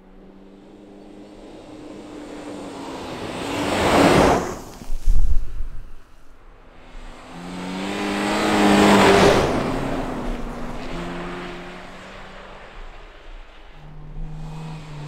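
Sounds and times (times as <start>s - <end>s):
rally cars passing by: 0.0s - 15.0s.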